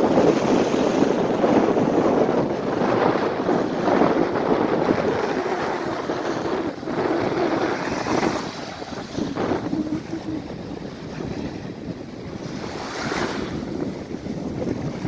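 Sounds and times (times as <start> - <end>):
sea waves on beach: 0.0 - 15.0
wind on microphone: 0.0 - 15.0.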